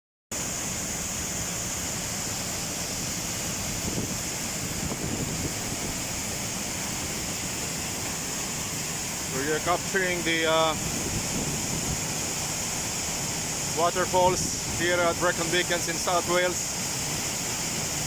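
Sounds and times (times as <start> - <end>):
waterfall rushing: 0.3 - 18.0.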